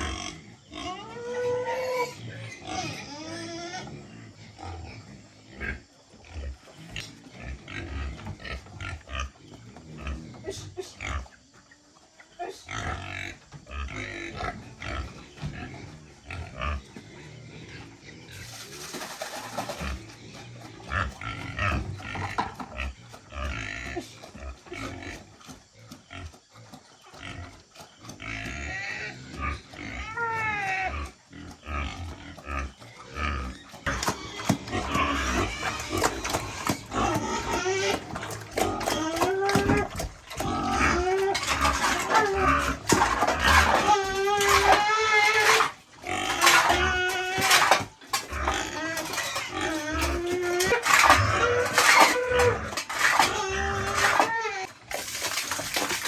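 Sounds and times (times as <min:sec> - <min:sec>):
pigs grunting: 0:00.0 - 0:56.0
pigs squealing: 0:00.0 - 0:56.0.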